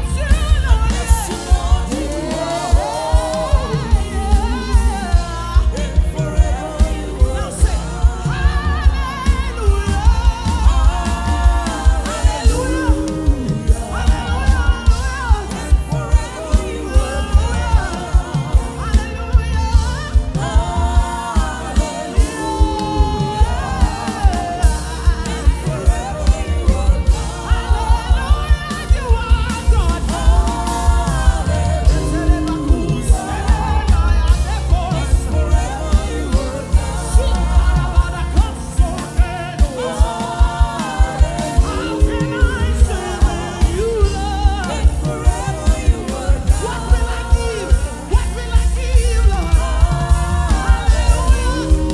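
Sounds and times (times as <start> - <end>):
band with heavy bass and beat: 0.0 - 51.9
gospel voices singing: 0.0 - 51.9.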